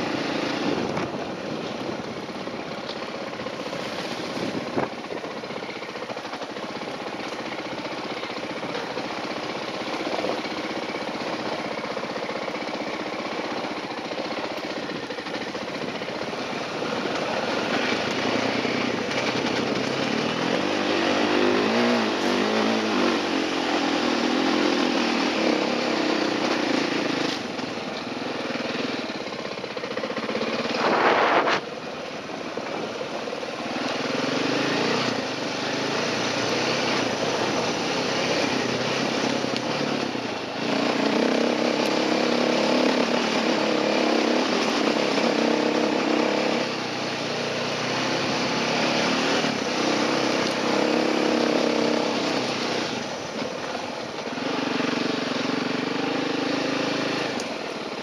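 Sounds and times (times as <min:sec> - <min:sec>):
dirt bike engine revving: 0:00.0 - 0:02.4, 0:03.5 - 0:31.8, 0:33.0 - 0:58.0.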